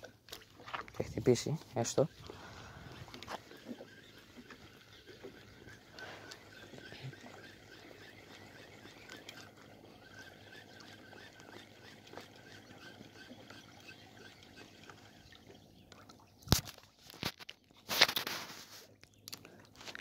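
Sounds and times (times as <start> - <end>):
small waves lapping on rocks: 0.0 - 16.8.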